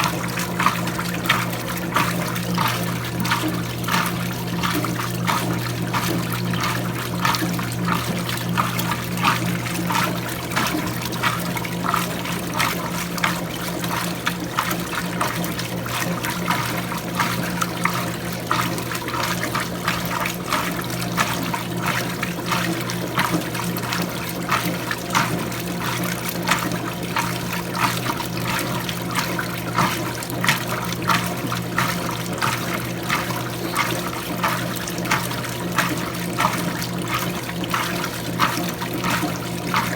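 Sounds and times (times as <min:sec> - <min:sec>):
washing machine low hum: 0:00.0 - 0:39.9
water sloshing in washing machine: 0:00.0 - 0:39.9.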